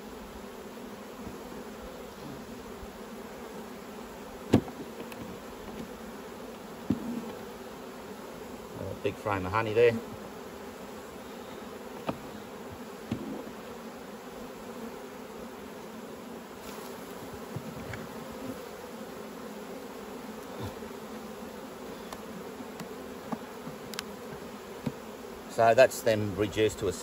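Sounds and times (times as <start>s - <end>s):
honeybees buzzing: 0.0s - 27.0s.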